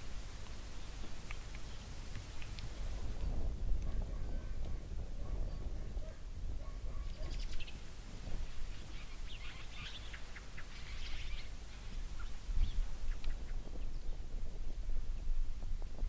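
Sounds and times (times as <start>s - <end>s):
small birds chirping: 0.0s - 6.1s, 6.8s - 14.4s.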